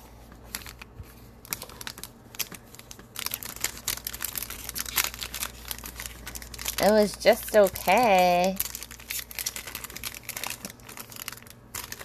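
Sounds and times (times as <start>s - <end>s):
foil wrapper crinkling: 0.3s - 12.0s.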